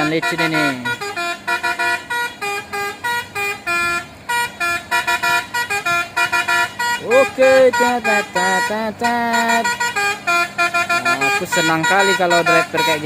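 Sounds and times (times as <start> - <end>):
musical truck horn playing tune: 0.0 - 13.0.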